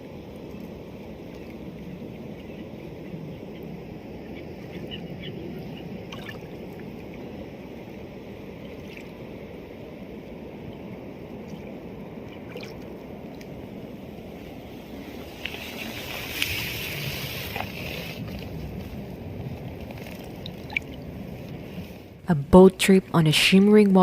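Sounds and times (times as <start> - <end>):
boat engine rumble: 0.0 - 24.0
water washing along hull: 0.0 - 24.0.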